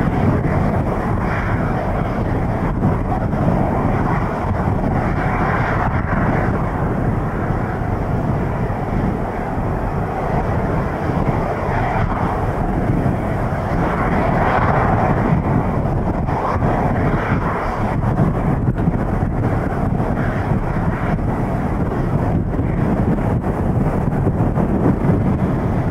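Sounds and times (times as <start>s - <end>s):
jet engines at low power: 0.0s - 25.9s
wind rumbling on microphone: 0.0s - 25.9s.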